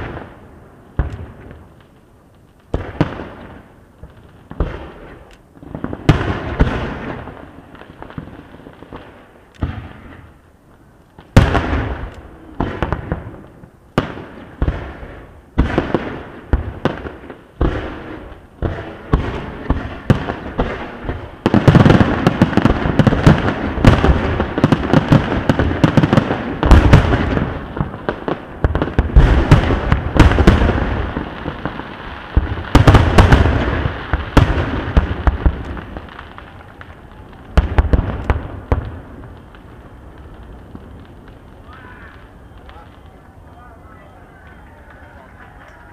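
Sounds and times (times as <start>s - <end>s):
fireworks bursting in booms: 0.0s - 2.0s, 2.6s - 10.4s, 11.1s - 45.9s
fireworks crackle: 0.0s - 45.9s.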